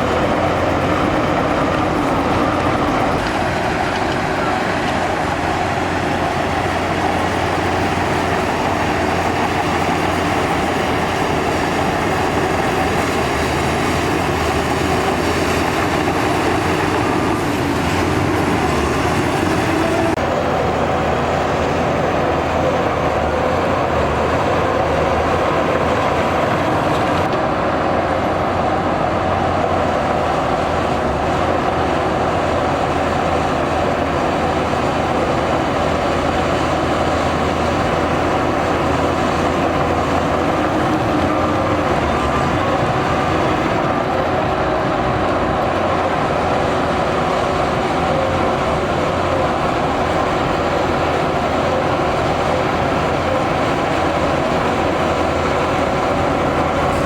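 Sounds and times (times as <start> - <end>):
diesel earthmoving machine running: 0.0 - 57.0.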